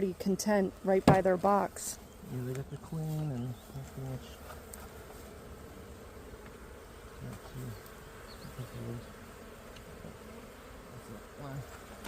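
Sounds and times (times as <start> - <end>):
bees flying close past: 0.0 - 12.0
honeybees buzzing: 0.0 - 12.0.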